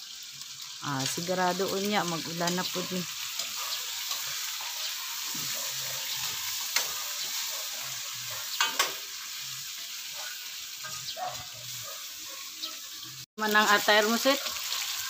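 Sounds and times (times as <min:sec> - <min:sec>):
fat sizzling in a frying pan: 0:00.0 - 0:15.0.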